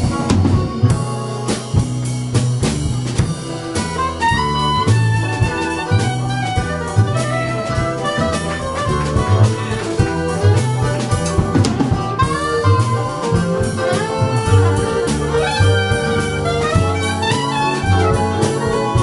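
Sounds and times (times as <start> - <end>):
bass: 0.0 - 19.0
drum kit: 0.0 - 19.0
saxophone lead: 0.0 - 19.0.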